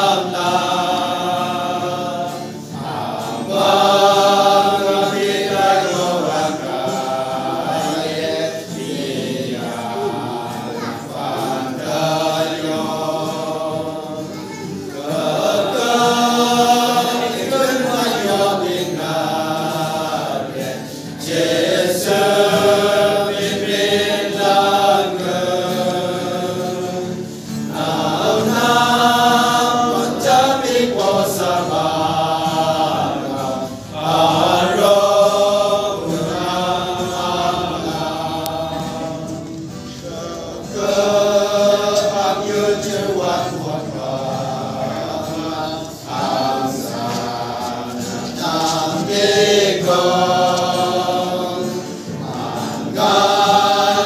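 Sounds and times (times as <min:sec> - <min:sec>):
group singing a hymn: 0:00.0 - 0:54.0.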